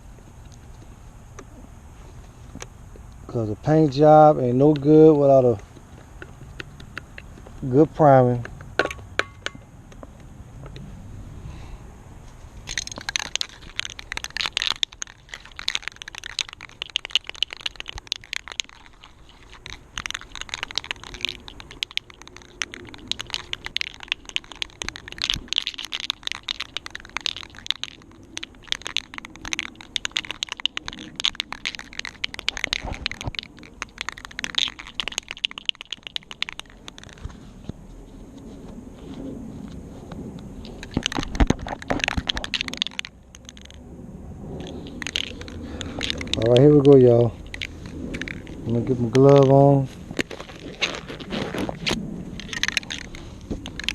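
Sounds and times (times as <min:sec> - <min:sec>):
masking tape crinkling and crackling: 0:00.0 - 0:10.9, 0:12.2 - 0:53.9.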